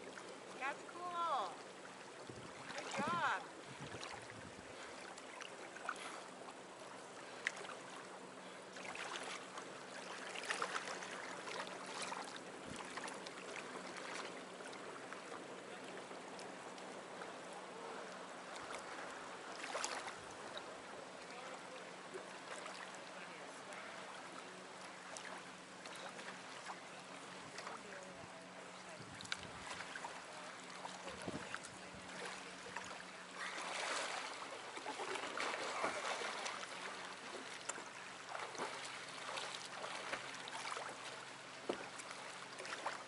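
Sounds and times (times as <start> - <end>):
faint low hum: 0.0 - 43.0
water lapping and splashing: 0.0 - 43.0.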